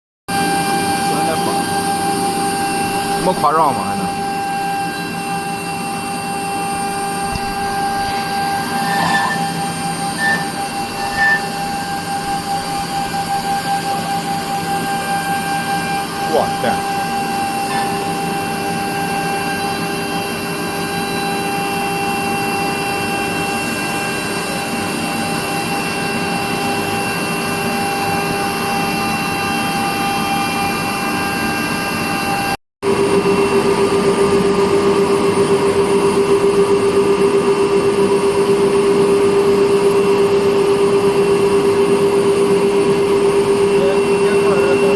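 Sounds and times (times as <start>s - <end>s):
router spindle whine: 0.3s - 44.9s.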